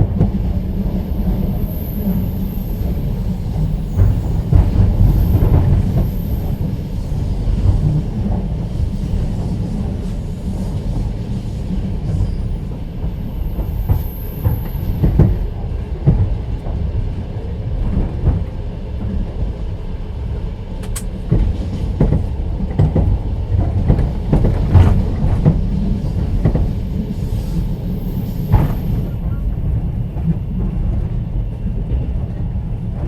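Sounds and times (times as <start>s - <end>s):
train wheels clattering over rails: 0.0s - 19.9s, 20.6s - 33.0s.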